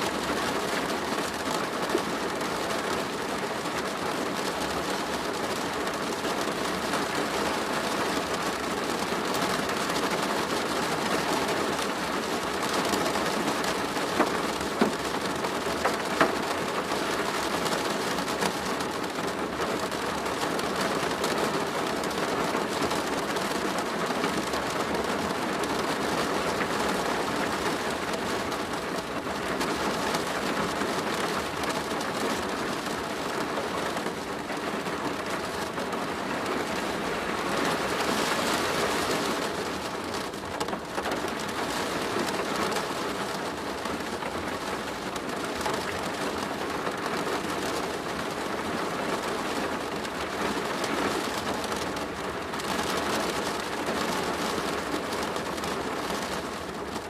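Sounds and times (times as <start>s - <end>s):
rain on a plastic roof: 0.0s - 57.0s.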